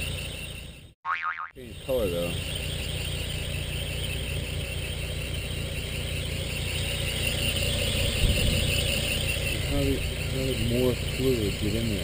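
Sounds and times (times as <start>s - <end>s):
car engine idling: 0.0s - 1.0s, 1.6s - 12.0s
high-pitched squeal: 0.0s - 1.0s, 1.6s - 12.0s.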